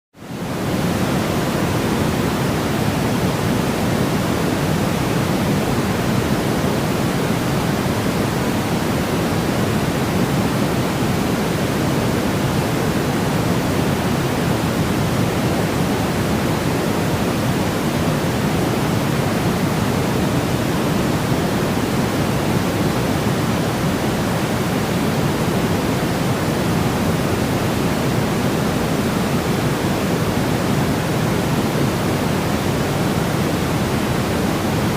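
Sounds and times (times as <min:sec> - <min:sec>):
low white noise hiss: 0:00.2 - 0:34.9.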